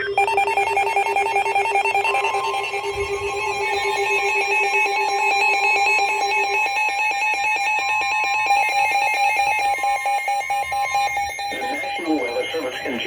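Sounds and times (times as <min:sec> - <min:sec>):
shrill electronic two-tone alarm: 0:00.0 - 0:13.0.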